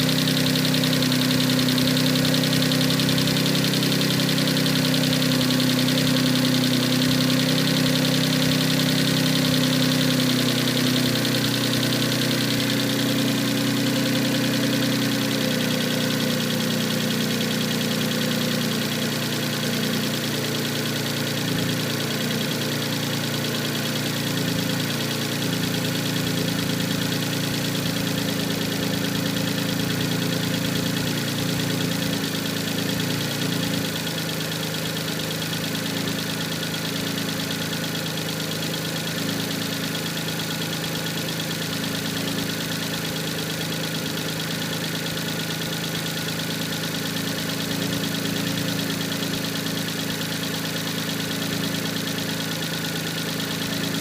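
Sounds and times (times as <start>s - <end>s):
engine idling with knocking: 0.0s - 54.0s.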